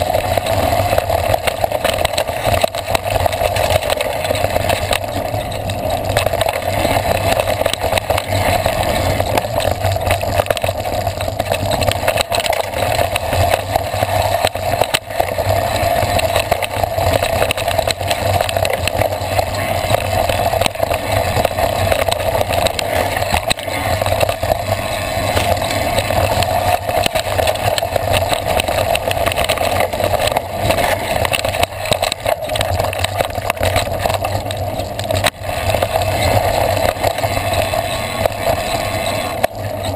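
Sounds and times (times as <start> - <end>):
bike clicks and rattles: 0.0 - 39.9
rush of wind: 0.0 - 39.9
tyre rumble: 0.0 - 39.9.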